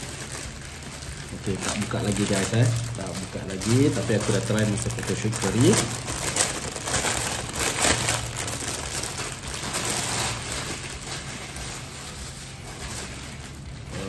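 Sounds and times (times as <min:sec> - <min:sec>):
cloth and tissue paper rustling: 0:00.0 - 0:14.0
plastic bag crinkling: 0:00.0 - 0:14.0.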